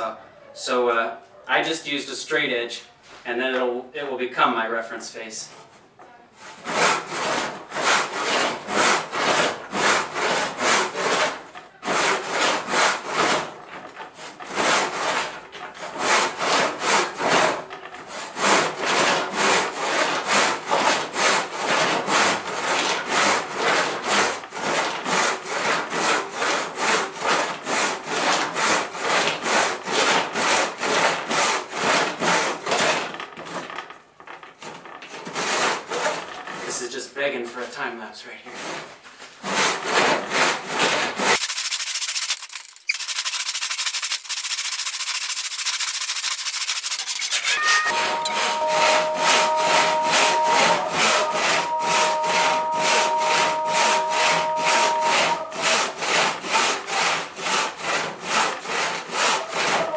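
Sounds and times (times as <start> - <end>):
hand saw rasping through wood: 6.4 - 37.0, 38.5 - 59.9.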